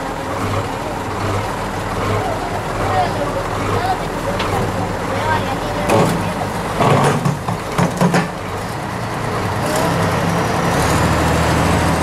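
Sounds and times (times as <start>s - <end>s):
wheel loader diesel engine: 0.0s - 12.0s.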